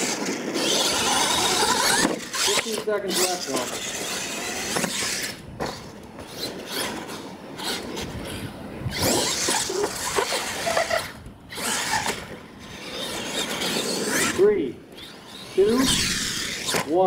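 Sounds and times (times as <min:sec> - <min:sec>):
tires scrabbling over dirt: 0:00.0 - 0:17.0
toy truck motors whining: 0:00.0 - 0:17.0.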